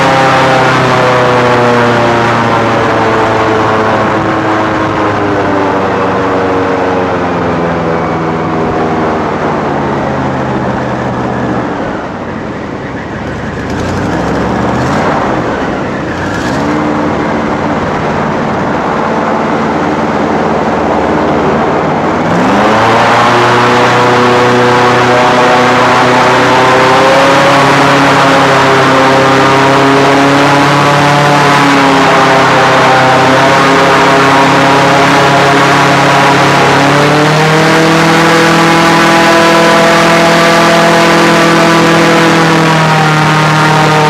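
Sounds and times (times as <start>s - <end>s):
airboat engine and propeller: 0.0s - 44.0s.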